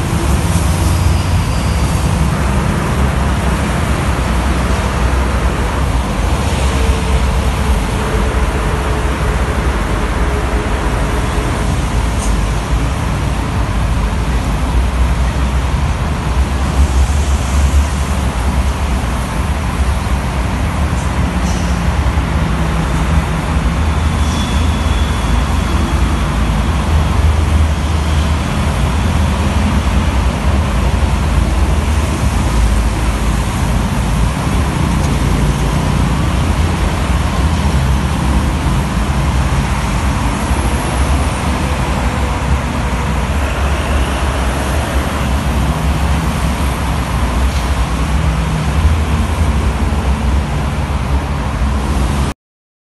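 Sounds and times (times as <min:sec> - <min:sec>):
heavy traffic on wet road: 0:00.0 - 0:52.3.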